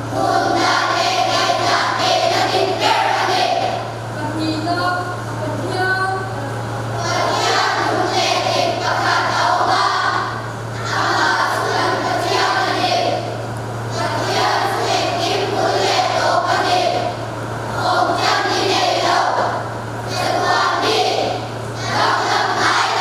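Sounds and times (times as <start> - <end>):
children's choir singing: 0.0 - 3.9, 7.0 - 23.0
steady low hum: 0.0 - 23.0.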